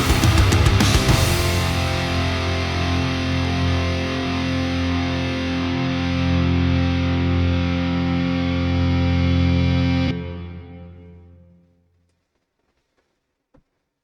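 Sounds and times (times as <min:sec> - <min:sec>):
distorted electric guitar chord: 0:00.0 - 0:11.6.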